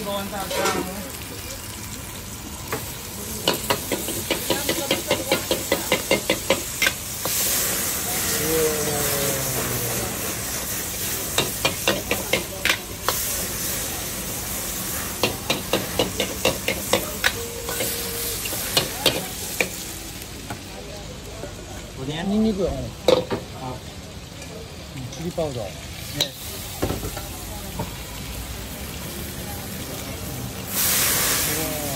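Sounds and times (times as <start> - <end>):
wok flaring up hiss: 0.0 - 21.8, 25.8 - 31.9
steady sizzling: 0.0 - 31.9.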